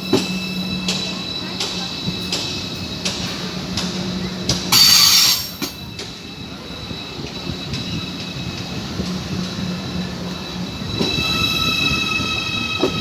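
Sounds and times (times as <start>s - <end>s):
thin steady squeal: 0.0s - 13.0s
train wheels clicking over rails: 0.0s - 13.0s.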